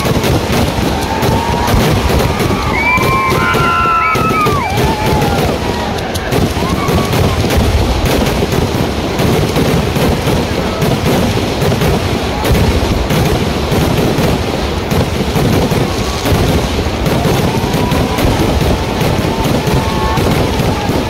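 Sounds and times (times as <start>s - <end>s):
fireworks rapid bangs and crackles: 0.0s - 21.0s.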